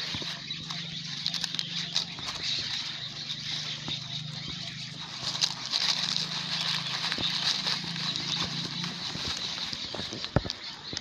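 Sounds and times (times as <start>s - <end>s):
plastic wrapper crinkling: 0.0s - 4.2s, 5.0s - 11.0s
dry leaves and twigs rustling: 0.0s - 11.0s.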